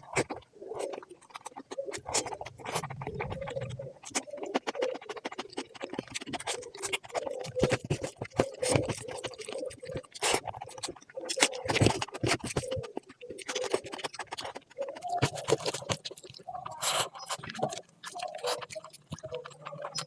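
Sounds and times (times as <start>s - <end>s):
wet chewing and crunching: 0.0s - 20.0s.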